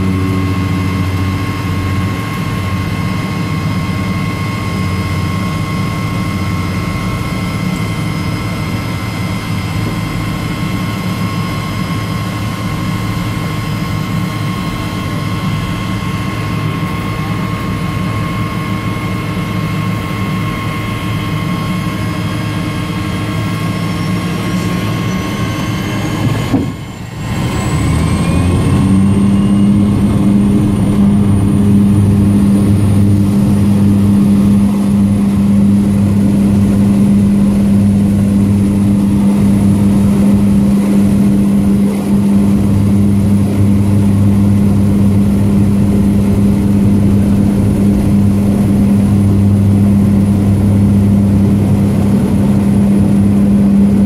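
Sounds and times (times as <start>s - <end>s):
propeller engine whining: 0.0s - 54.0s.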